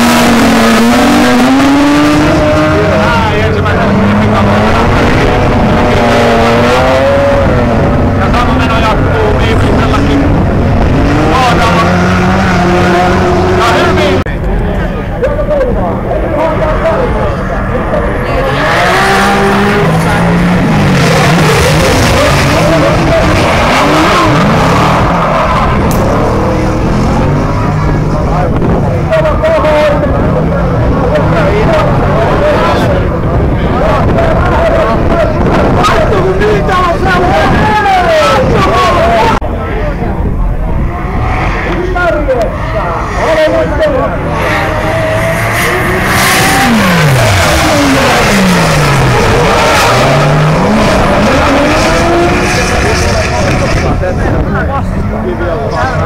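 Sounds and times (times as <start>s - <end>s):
car engines revving hard: 0.0s - 56.0s
tyres skidding and squealing: 0.0s - 56.0s.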